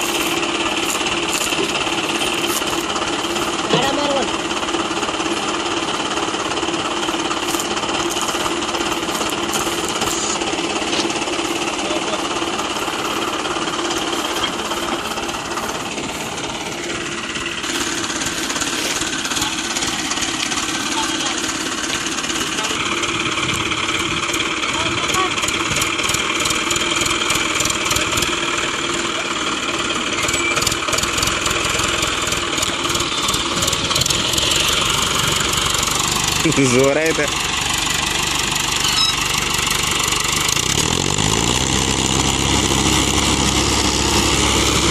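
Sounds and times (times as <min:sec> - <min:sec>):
diesel tractor engines knocking: 0:00.0 - 0:44.9.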